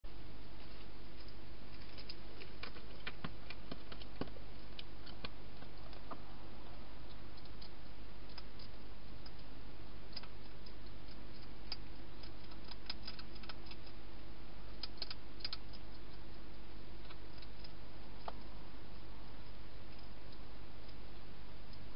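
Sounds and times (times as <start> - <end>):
hedgehog eating crunches: 0.6 - 14.0, 14.6 - 21.0.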